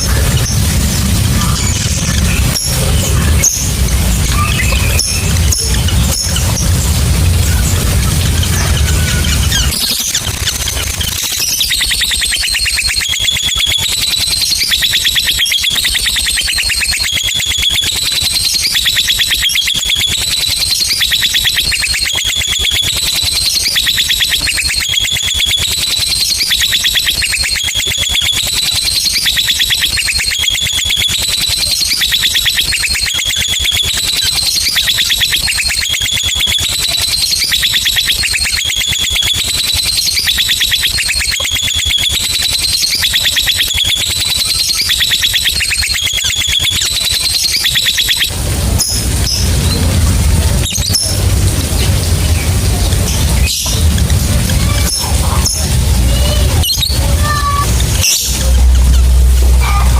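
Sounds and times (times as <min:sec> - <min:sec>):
lovebird trilling: 0:00.0 - 0:49.9.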